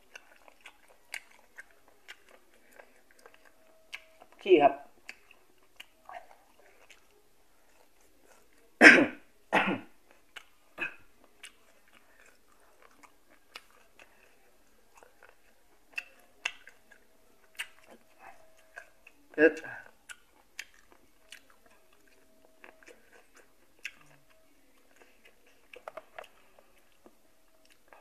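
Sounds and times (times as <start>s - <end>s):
person chewing: 0.0s - 8.8s, 10.0s - 28.0s.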